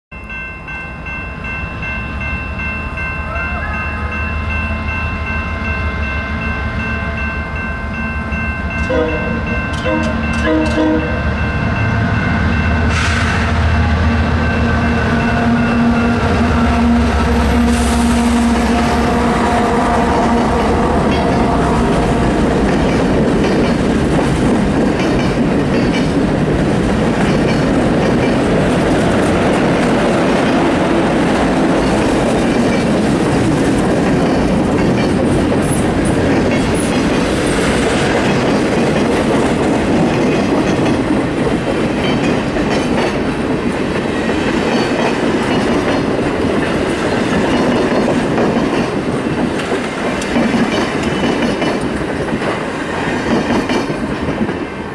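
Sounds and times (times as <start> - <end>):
rhythmic rail clacking: 0.1 - 54.9
train wheels rumbling on rails: 1.1 - 54.9.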